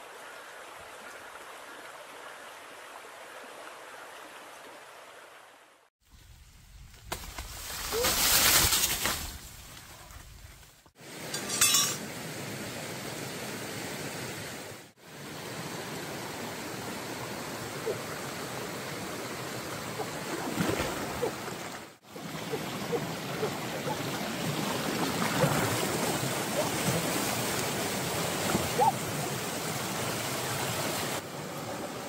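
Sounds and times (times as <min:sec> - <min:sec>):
stream water rushing: 0:00.0 - 0:05.9, 0:11.0 - 0:32.0.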